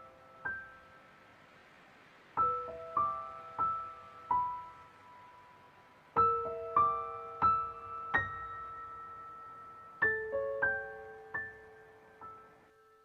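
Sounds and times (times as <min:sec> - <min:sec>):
soft solo piano: 0:00.0 - 0:01.0, 0:02.4 - 0:13.0.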